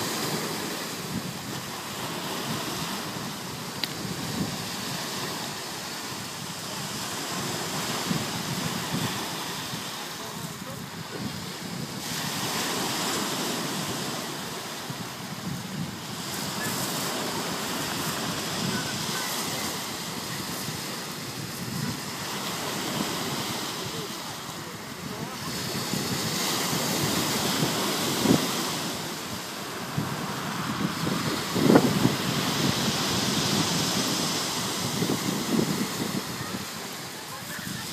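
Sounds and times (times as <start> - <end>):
surf washing onto shore: 0.0 - 37.9
wind on microphone: 0.0 - 37.9.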